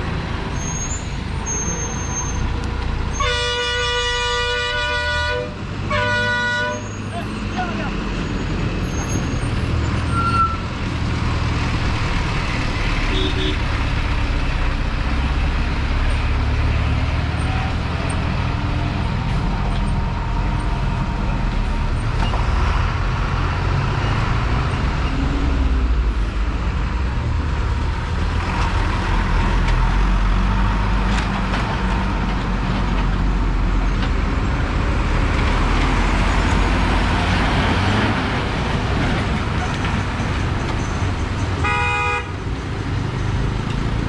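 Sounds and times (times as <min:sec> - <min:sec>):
lorry diesel engines rumbling: 0:00.0 - 0:44.0.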